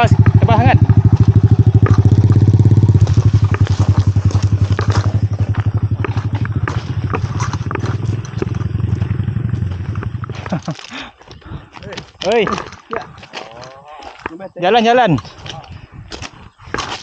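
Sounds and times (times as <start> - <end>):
motorcycle engine puttering: 0.0 - 14.4
footsteps on gravel: 0.2 - 14.5, 15.2 - 17.0.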